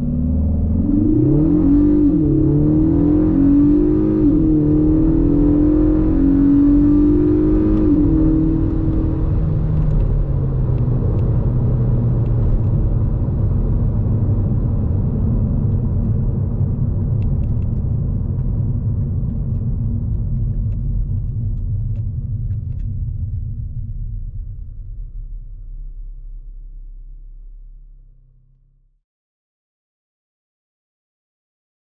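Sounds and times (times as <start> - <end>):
road and tyre noise: 0.0 - 27.8
car engine accelerating: 0.0 - 28.9.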